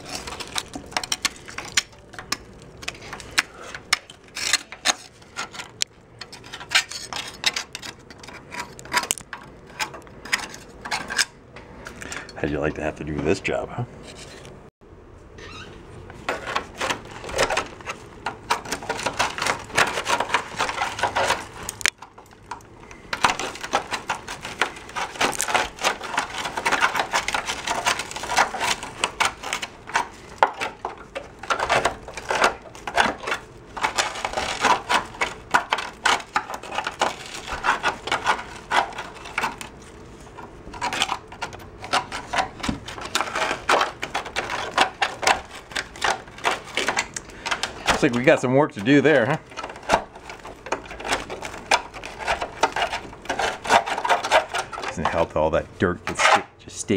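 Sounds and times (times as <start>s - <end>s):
metal scraper scraping steel frame: 0.0s - 11.4s, 15.7s - 56.6s.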